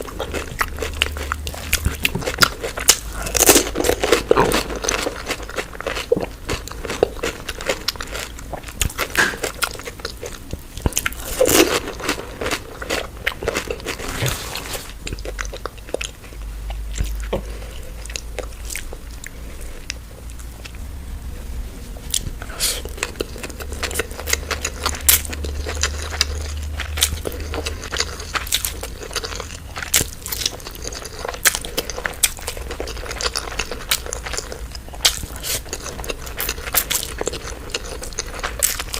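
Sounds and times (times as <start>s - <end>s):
crunching and chewing food: 0.0s - 20.8s, 22.0s - 38.9s.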